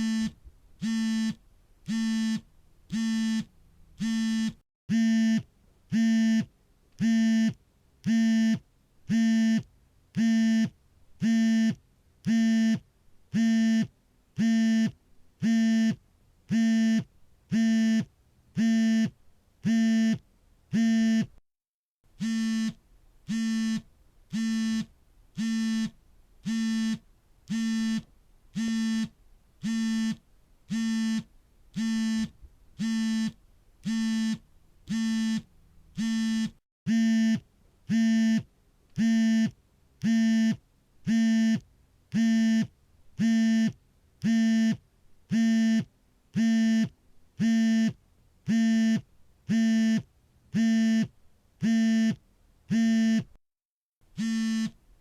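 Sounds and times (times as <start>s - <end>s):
phone vibration buzzing: 0.0s - 9.6s, 13.4s - 21.4s, 22.2s - 41.6s, 42.2s - 53.3s, 54.2s - 54.8s.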